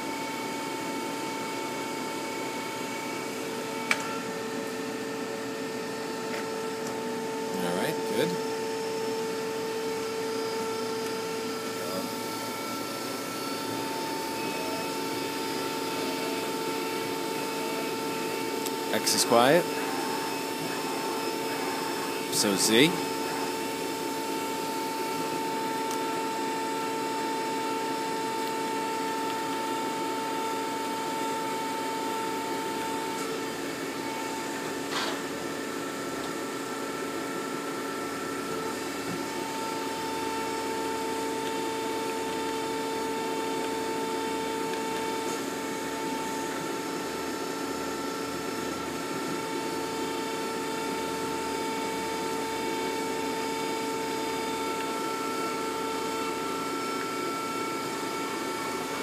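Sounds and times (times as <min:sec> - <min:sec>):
lathe humming with whining tones: 0:00.0 - 0:59.0.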